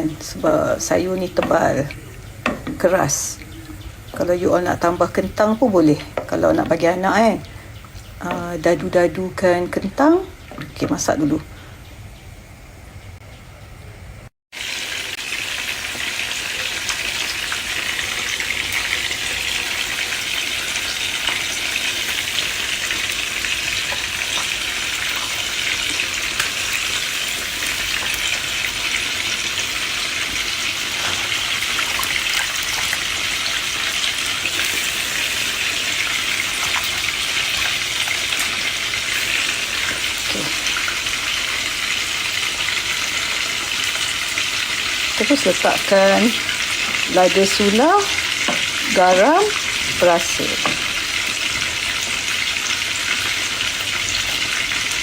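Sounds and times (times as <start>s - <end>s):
soup boiling and bubbling: 0.0s - 11.5s, 14.5s - 55.0s.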